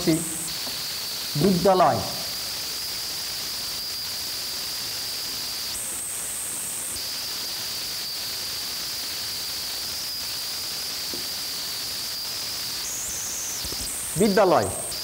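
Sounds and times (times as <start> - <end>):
steady hiss: 0.0 - 15.0
thin high-pitched whine: 0.0 - 15.0.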